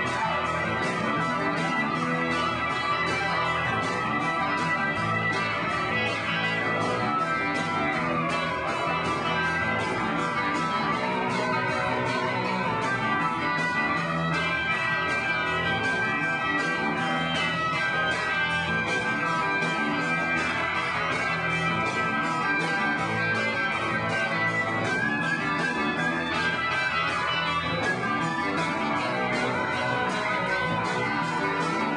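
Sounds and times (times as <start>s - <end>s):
rock band playing live: 0.0s - 31.9s.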